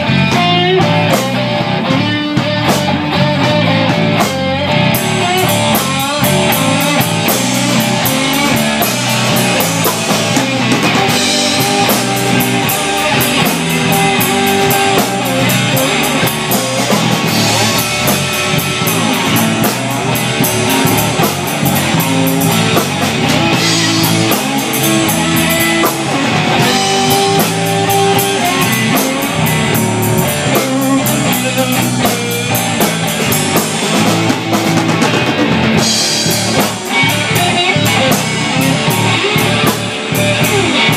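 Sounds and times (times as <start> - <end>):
bass guitar: 0.0 - 40.9
drum kit: 0.0 - 40.9.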